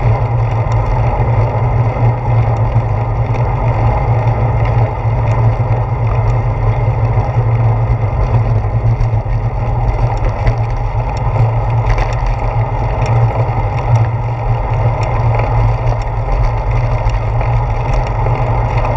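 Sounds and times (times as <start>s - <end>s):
bicycle tyres rumbling: 0.0s - 18.9s
faint ticks and rattles: 0.0s - 18.9s.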